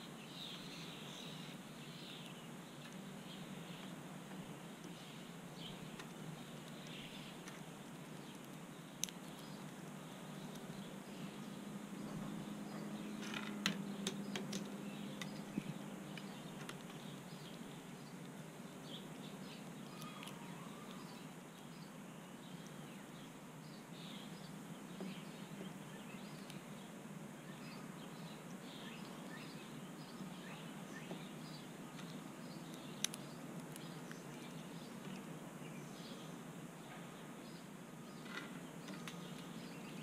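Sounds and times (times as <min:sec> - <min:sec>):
songbirds chirping: 0:00.0 - 0:40.0.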